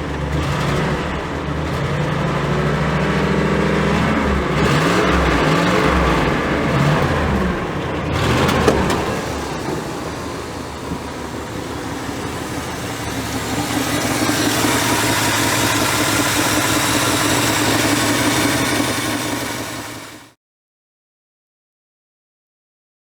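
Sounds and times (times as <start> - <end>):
car engine idling: 0.0 - 20.3.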